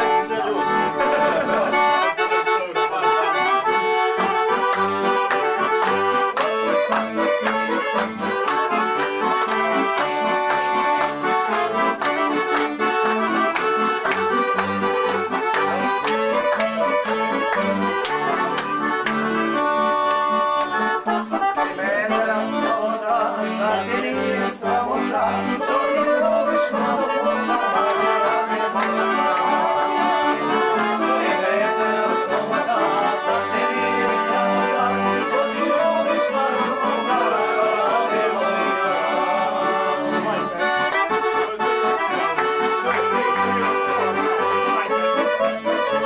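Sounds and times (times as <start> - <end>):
accordion-led traditional music: 0.0 - 46.0.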